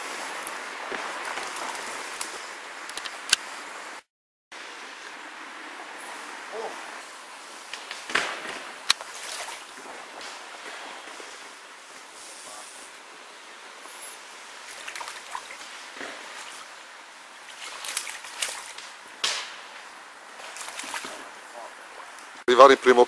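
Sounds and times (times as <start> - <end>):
stream water running: 0.0 - 23.0.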